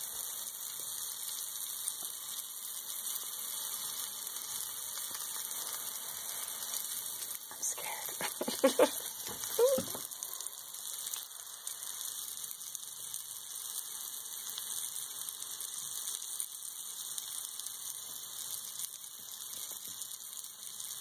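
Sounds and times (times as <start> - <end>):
mushrooms sizzling in a frying pan: 0.0 - 21.0.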